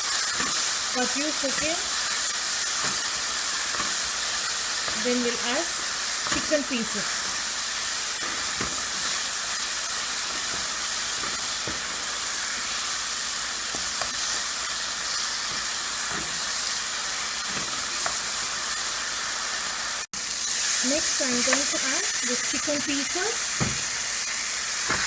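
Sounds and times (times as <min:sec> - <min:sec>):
masala sizzling in a pan: 0:00.0 - 0:25.0.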